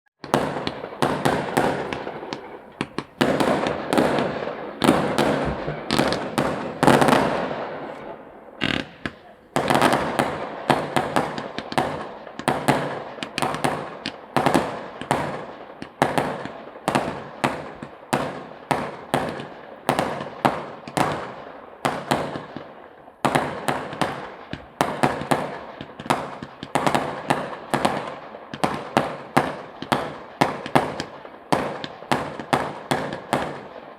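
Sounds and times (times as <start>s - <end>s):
fireworks bangs and crackles: 0.2s - 33.9s.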